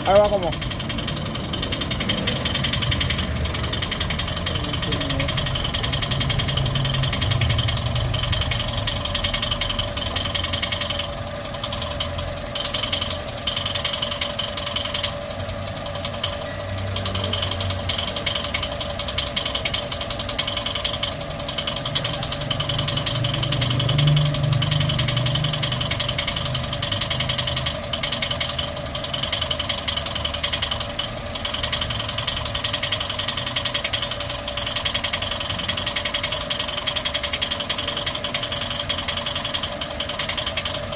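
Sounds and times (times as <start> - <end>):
car engine mechanical clatter: 0.0 - 40.9.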